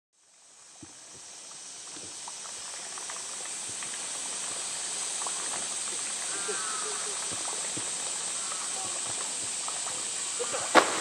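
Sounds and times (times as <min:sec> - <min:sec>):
steady high hiss: 0:00.2 - 0:11.0.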